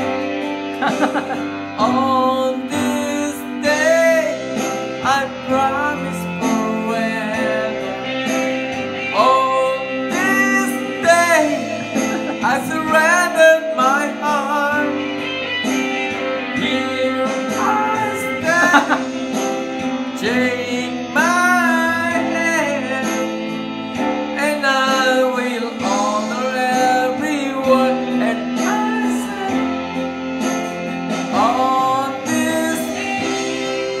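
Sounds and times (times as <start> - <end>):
backing track with guitar: 0.0 - 34.0
man singing into microphone: 0.8 - 34.0.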